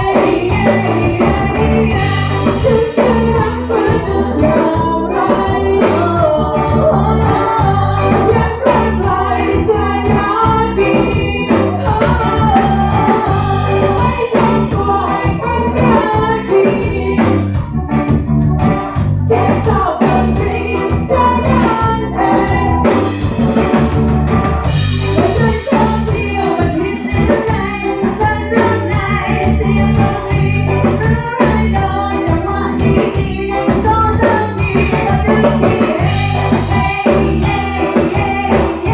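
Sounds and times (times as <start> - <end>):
person singing: 0.0 - 18.2, 19.2 - 23.8, 24.8 - 38.9
loud music with steady beat: 0.0 - 34.8, 35.4 - 38.9.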